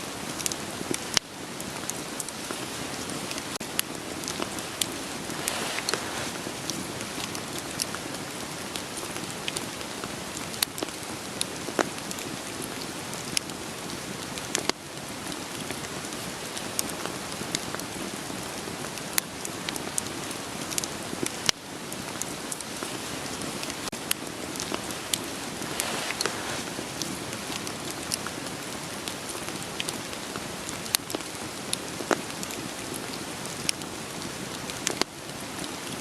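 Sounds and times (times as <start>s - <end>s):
steady rain falling: 0.0s - 36.0s
campfire crackling and popping: 0.1s - 36.0s.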